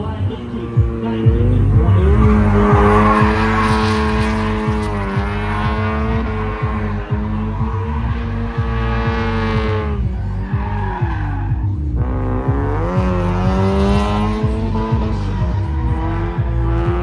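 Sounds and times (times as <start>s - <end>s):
tyres squealing: 0.0s - 16.4s
car engine revving: 0.0s - 17.0s.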